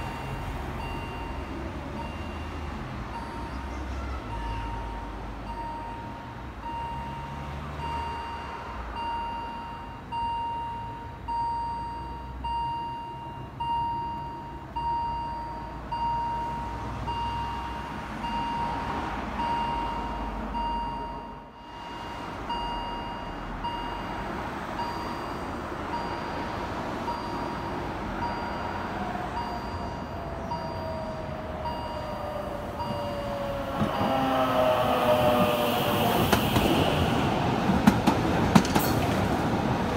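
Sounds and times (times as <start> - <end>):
level-crossing warning beeper: 0.0 - 37.7
low road rumble: 0.0 - 39.9.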